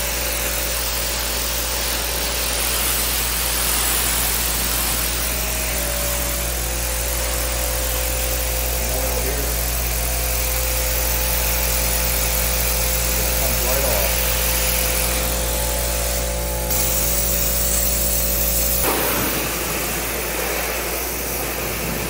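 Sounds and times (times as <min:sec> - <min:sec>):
pressure washer running: 0:00.0 - 0:22.0
water jet hissing on concrete: 0:00.0 - 0:22.0.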